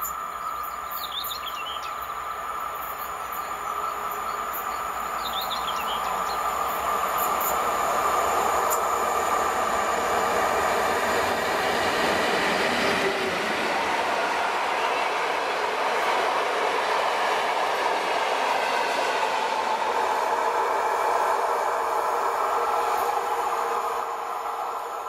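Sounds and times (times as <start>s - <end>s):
electric locomotive passing: 0.0s - 25.0s
wheels rolling on rail: 0.0s - 25.0s.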